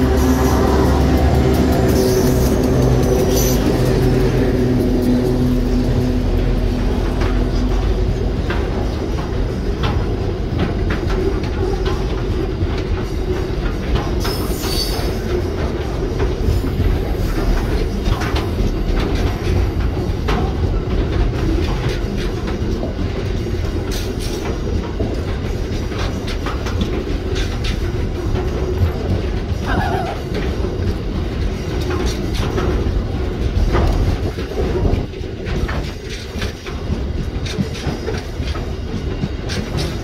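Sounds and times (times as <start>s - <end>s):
freight train rumbling past: 0.0s - 40.0s
wheels clicking on rails: 0.0s - 40.0s.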